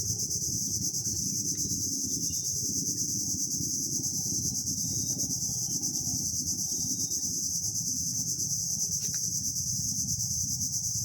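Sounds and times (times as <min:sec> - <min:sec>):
insect chorus trilling: 0:00.0 - 0:11.0.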